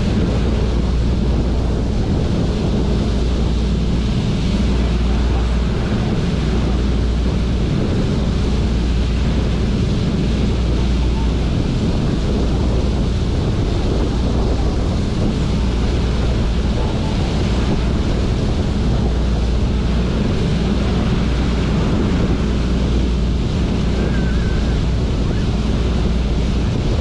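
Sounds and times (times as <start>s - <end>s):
ship engines droning: 0.0s - 27.0s
wake rushing: 0.0s - 27.0s
wind buffeting microphone: 0.0s - 27.0s.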